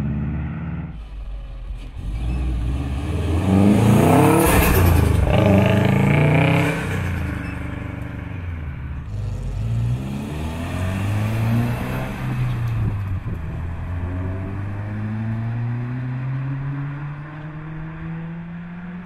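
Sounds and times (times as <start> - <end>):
car engines accelerating away: 0.0 - 19.0.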